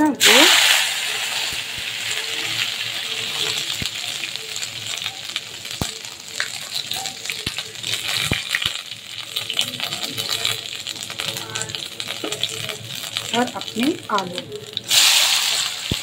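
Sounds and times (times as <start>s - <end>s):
spices sizzling in hot oil: 0.0s - 16.0s.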